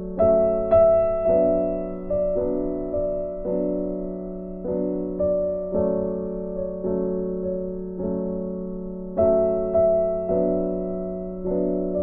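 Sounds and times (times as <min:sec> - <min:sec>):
slow gentle piano tune: 0:00.0 - 0:12.0.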